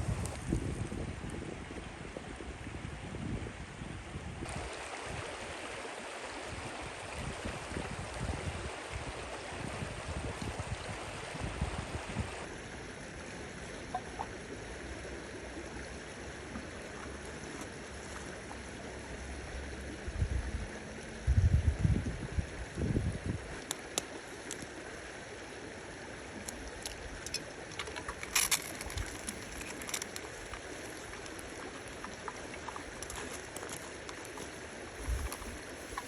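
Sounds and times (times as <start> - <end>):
stream flowing: 0.0 - 36.0.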